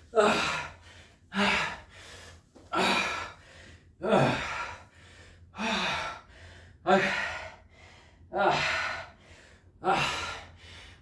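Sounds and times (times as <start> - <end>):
man panting: 0.0 - 11.0.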